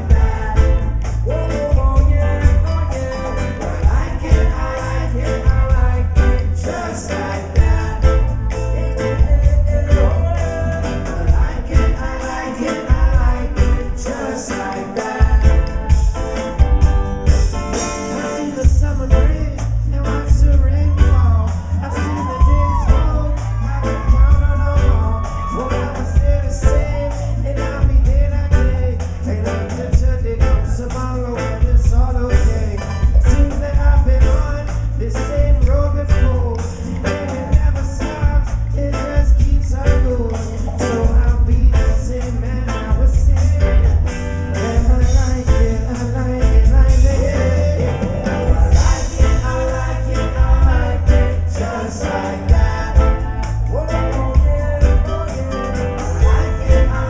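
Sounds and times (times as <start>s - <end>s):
heavy bass: 0.0s - 57.0s
live reggae-rock band: 0.0s - 57.0s
person singing: 0.0s - 57.0s.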